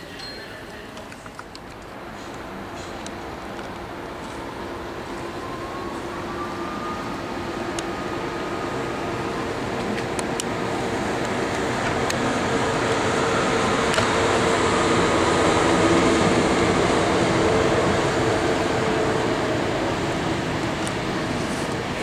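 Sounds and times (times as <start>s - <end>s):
high-speed train approaching: 0.0s - 22.0s.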